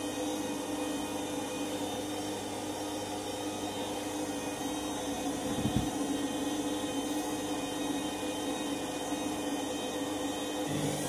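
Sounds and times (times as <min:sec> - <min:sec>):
washing machine motor whine: 0:00.0 - 0:11.0.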